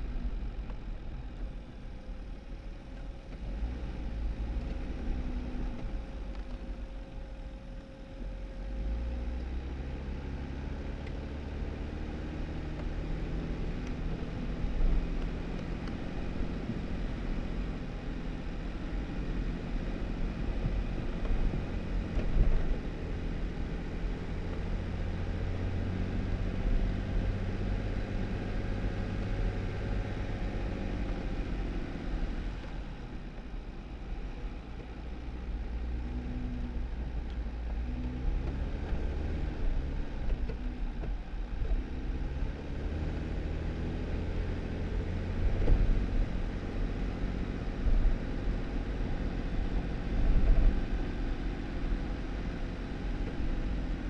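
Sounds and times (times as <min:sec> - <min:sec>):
car engine running: 0:00.0 - 0:54.0
tyre noise on snowy road: 0:00.0 - 0:54.0.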